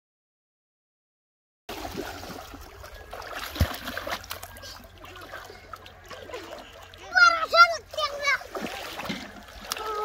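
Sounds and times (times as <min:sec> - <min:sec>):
water splashing and sloshing: 0:01.7 - 0:10.0.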